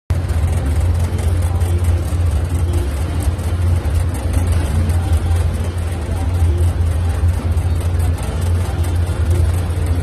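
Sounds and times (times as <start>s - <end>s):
boat engine droning: 0.1s - 10.0s.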